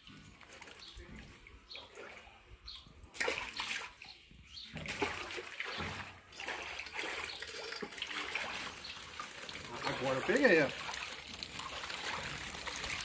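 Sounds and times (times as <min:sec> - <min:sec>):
water splashing in fish tank: 0:00.0 - 0:13.0.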